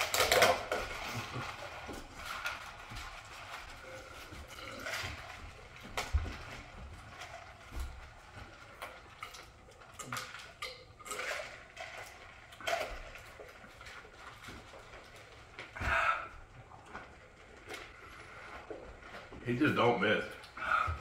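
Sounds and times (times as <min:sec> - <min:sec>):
people eating and gulping: 0:00.0 - 0:19.4, 0:20.3 - 0:21.0.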